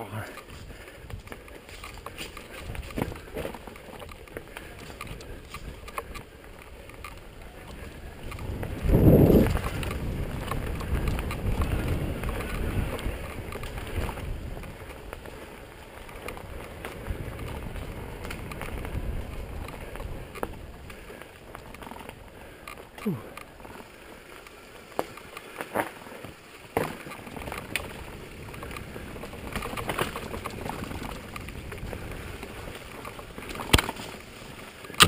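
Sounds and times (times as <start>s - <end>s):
bike rattling and clicking: 0.0s - 35.0s
bike tyres rumbling on dirt: 0.0s - 35.0s
wind buffeting microphone: 0.5s - 24.0s, 27.0s - 35.0s.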